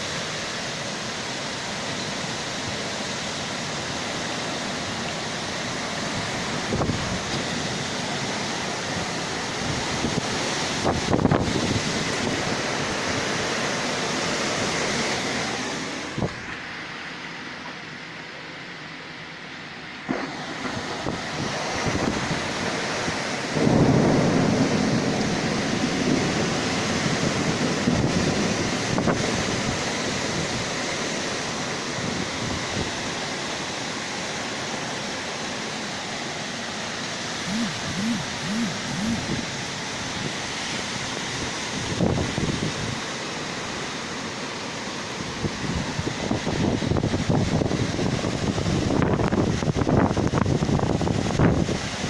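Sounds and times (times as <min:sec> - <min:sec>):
gusting storm wind: 0:00.0 - 0:16.6, 0:19.9 - 0:34.1, 0:37.4 - 0:52.0
heavy rain downpour: 0:00.0 - 0:52.0.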